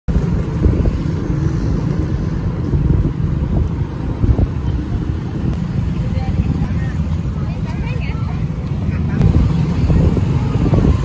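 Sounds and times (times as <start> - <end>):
motorcycle engine cruising: 0.1 - 11.0
wind buffeting microphone: 0.1 - 11.0.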